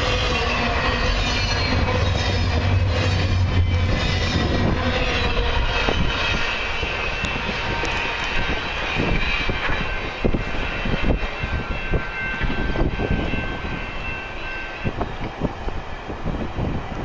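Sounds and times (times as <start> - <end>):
thin high wheel squeal: 0.0 - 15.2
train wheels rumbling on rail: 0.0 - 17.0.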